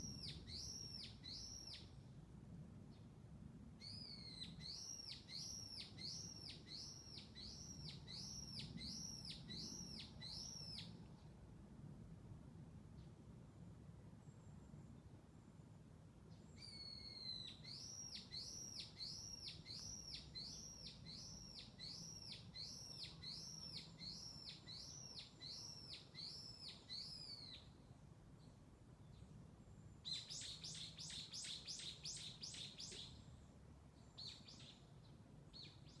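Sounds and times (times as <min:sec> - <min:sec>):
songbird chirping: 0:00.0 - 0:02.1, 0:03.8 - 0:11.4, 0:16.2 - 0:36.0.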